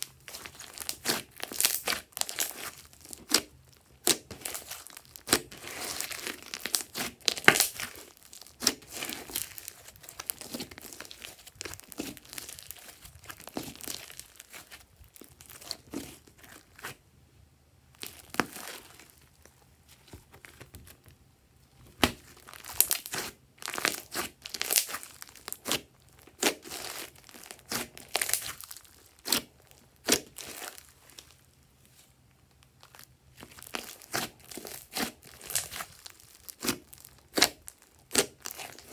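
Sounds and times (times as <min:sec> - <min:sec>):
slime squishing and popping: 0:00.1 - 0:16.8, 0:21.9 - 0:30.9, 0:32.8 - 0:38.9.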